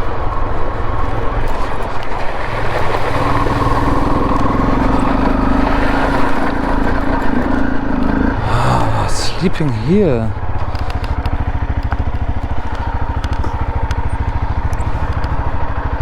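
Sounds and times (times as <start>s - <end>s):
motorcycle engine running: 0.0s - 9.0s, 9.7s - 16.0s.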